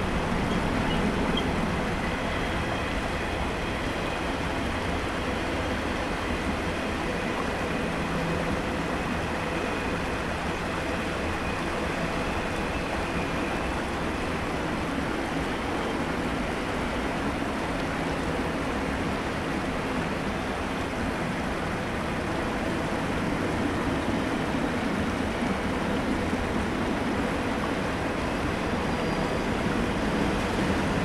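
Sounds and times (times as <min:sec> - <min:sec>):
creek water rushing: 0:00.0 - 0:31.0
freight train rolling past: 0:00.0 - 0:31.0.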